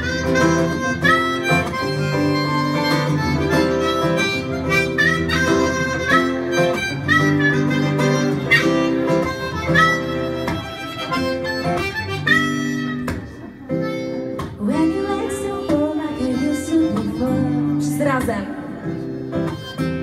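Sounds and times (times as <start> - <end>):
harmonica melody: 0.0 - 20.0
strummed acoustic guitar: 0.0 - 20.0.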